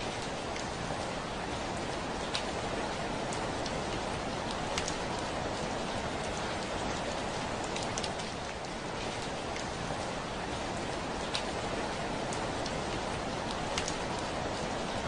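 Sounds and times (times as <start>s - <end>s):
heavy rain on a window: 0.0s - 15.0s.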